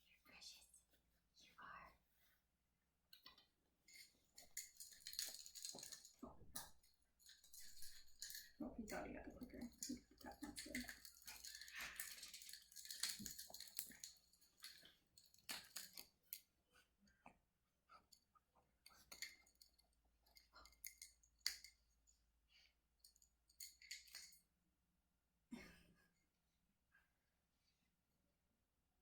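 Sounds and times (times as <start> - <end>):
faint handling clicks and rustles: 0.0 - 24.5.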